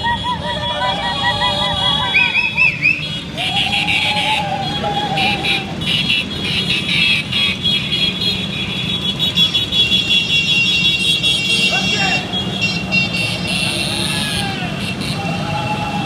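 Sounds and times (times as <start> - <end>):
vehicle horns sounding: 0.0 - 15.4
scooters and motorcycles passing: 0.0 - 16.0.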